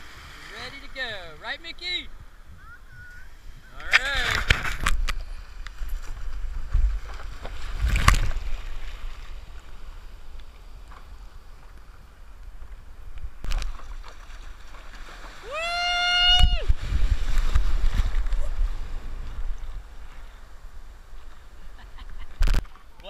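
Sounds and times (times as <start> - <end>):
surf waves splashing: 0.0 - 23.0.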